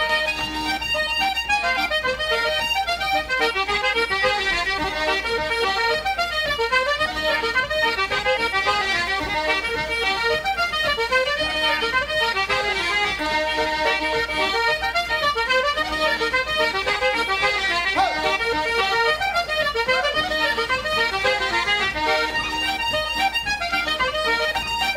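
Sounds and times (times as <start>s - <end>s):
accordion and concertina dance tune: 0.0s - 24.9s.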